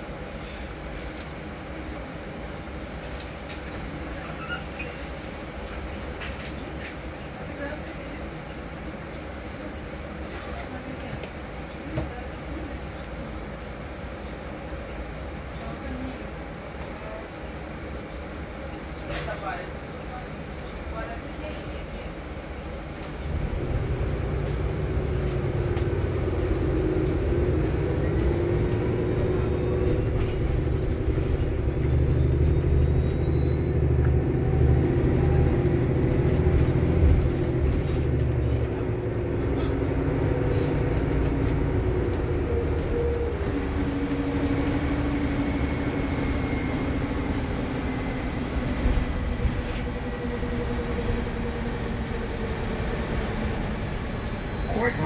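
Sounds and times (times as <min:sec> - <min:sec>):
bus drivetrain and road rumble: 0:00.0 - 0:55.0.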